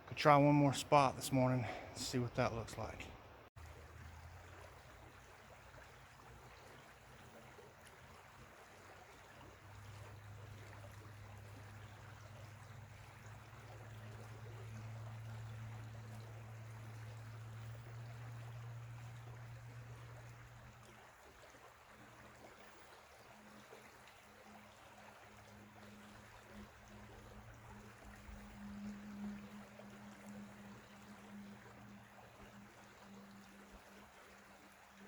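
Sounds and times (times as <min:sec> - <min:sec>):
creek water rushing: 0:00.0 - 0:35.0
low steady hum: 0:00.0 - 0:35.0.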